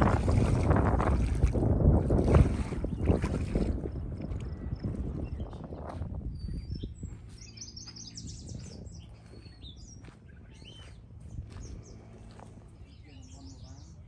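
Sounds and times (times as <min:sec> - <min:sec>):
wind noise on microphone: 0:00.0 - 0:14.0
songbirds singing: 0:00.1 - 0:14.0.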